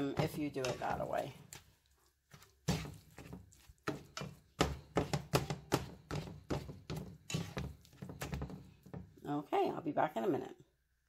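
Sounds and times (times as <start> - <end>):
spatula scraping frying pan: 0.0 - 9.1.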